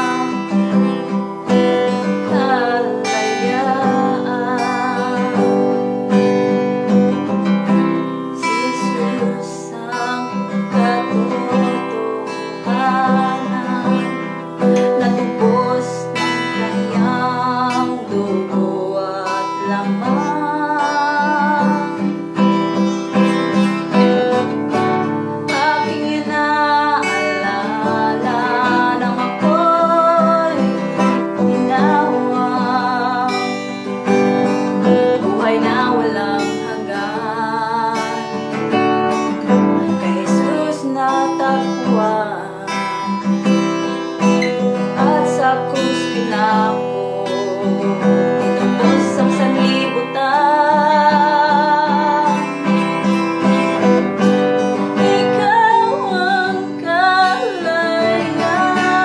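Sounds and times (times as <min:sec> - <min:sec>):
acoustic guitar strumming: 0:00.0 - 0:59.0
woman singing: 0:00.0 - 0:59.0.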